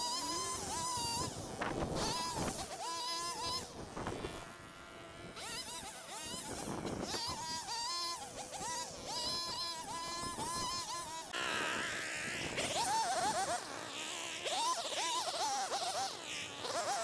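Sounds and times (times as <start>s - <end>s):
small petrol engine revving: 0.0s - 17.0s.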